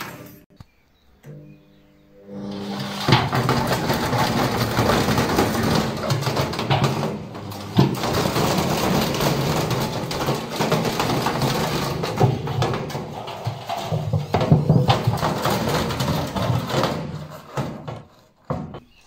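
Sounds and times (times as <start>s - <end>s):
unbalanced washing machine drum banging: 2.3s - 18.8s.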